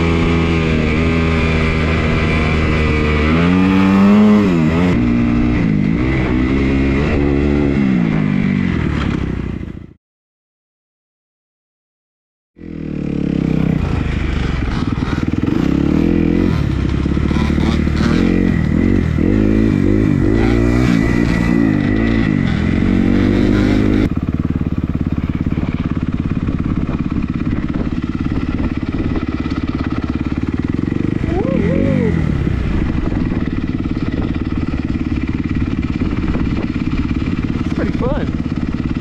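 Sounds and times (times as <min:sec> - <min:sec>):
dirt bike engine revving: 0:00.0 - 0:09.8, 0:12.6 - 0:39.0.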